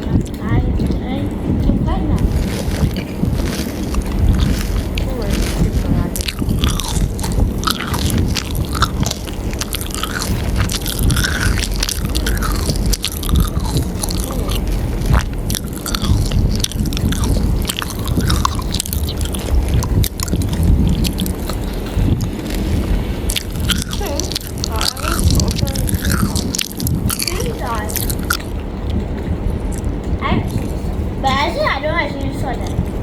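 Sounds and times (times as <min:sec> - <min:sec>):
biting and chewing food: 0:00.0 - 0:31.0
low rumble: 0:00.0 - 0:33.0.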